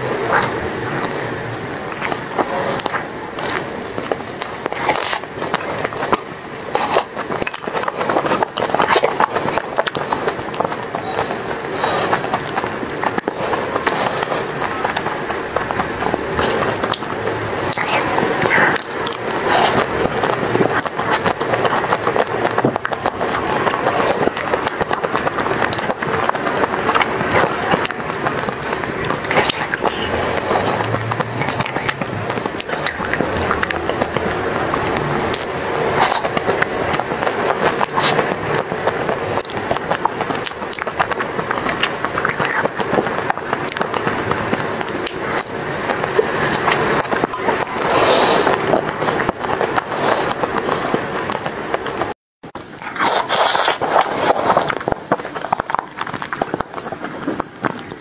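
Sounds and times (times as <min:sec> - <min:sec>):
chewing and crunching ice cream bar: 0:00.0 - 0:58.0.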